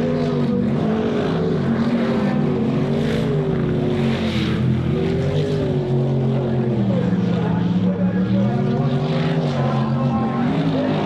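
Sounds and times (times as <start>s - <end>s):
boat engines at high revs: 0.0s - 11.0s.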